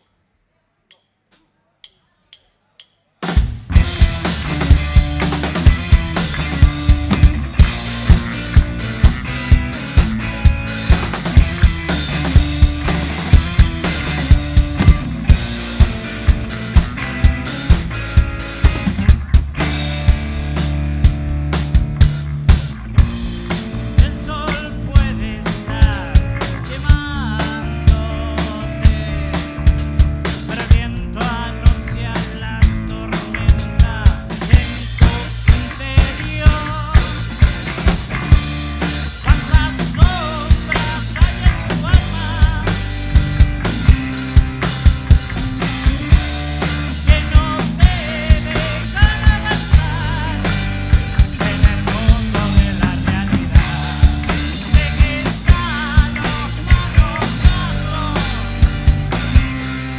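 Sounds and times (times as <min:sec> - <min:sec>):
drum kit beat: 0:00.9 - 0:59.9
bass: 0:03.2 - 0:59.9.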